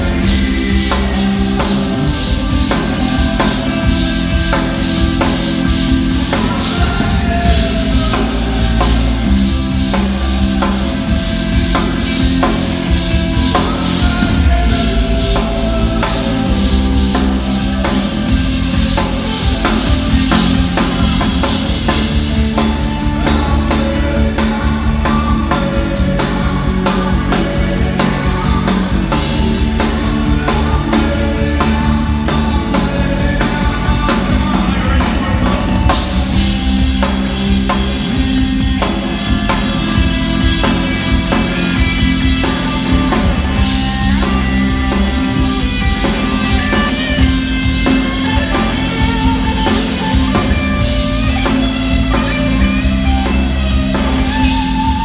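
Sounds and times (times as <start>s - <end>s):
drum kit steady beat: 0.0s - 55.0s
guitar: 0.0s - 55.0s
live rock band playing: 0.0s - 55.0s.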